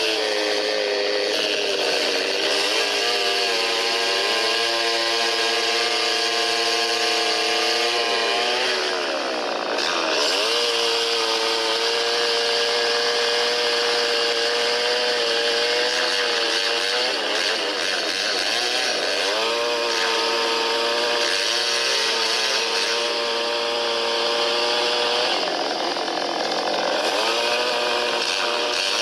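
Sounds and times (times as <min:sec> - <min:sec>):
chainsaw running hard: 0:00.0 - 0:29.0.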